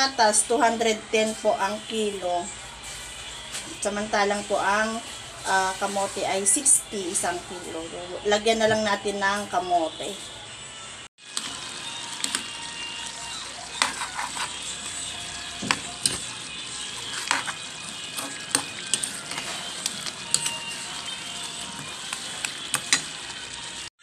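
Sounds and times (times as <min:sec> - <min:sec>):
curry sizzling in a pan: 0:00.0 - 0:10.3, 0:11.2 - 0:24.0.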